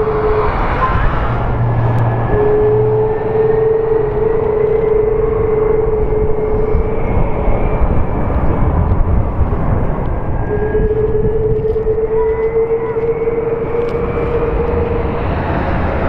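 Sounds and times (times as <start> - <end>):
jet engine rumble: 0.0 - 16.0
jet engine whine: 0.0 - 16.0.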